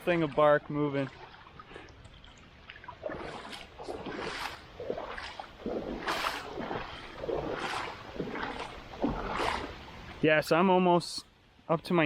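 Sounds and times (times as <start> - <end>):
legs wading through water: 0.0 - 10.4.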